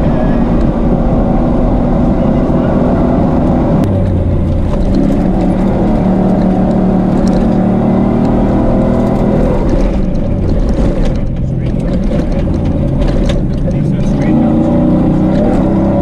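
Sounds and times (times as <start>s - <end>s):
truck engine running hard: 0.0s - 16.0s
tyre and track noise: 0.0s - 16.0s.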